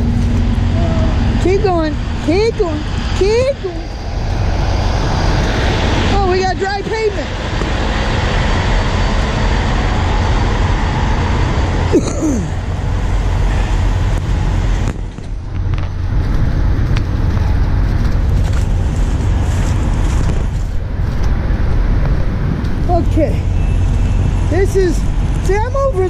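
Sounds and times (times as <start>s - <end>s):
traffic engine rumble: 0.0s - 26.0s.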